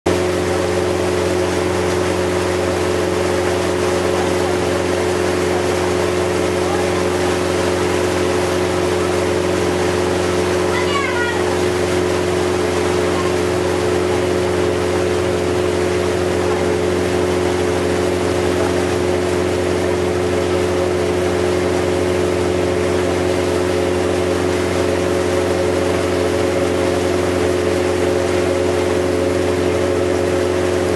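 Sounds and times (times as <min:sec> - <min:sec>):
boat engine drone: 0:00.1 - 0:30.9
boat wake rushing: 0:00.1 - 0:30.9.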